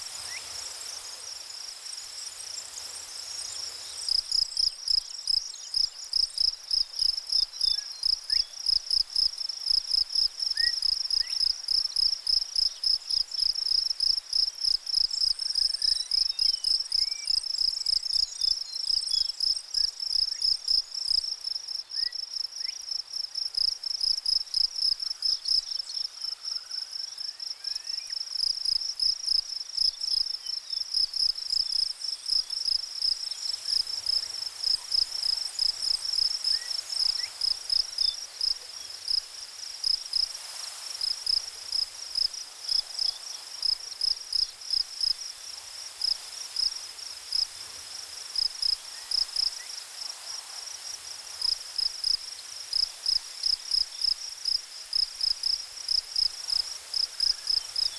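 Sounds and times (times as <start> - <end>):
insect chirping: 0.0 - 57.9.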